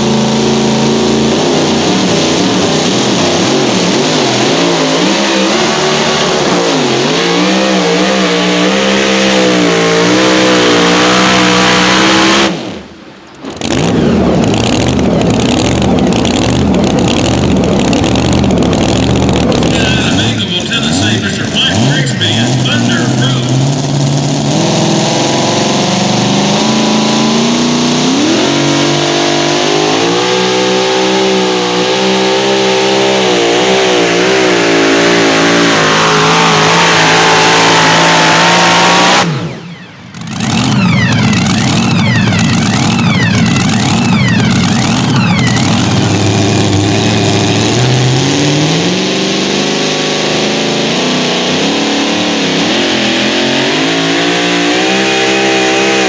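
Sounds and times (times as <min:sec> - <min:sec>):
engine whines: 0:00.0 - 0:56.0
truck engine at full throttle: 0:00.0 - 0:56.0.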